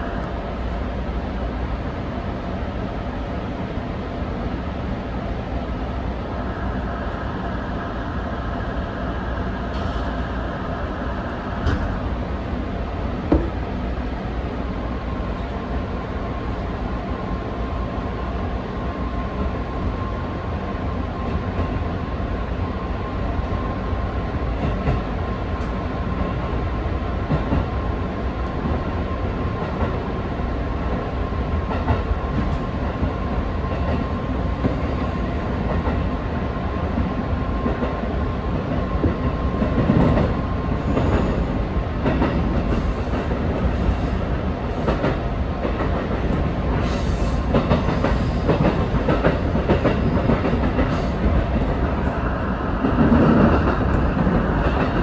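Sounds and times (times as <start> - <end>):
steady train whine: 0.0 - 55.0
train running rumble: 0.0 - 55.0.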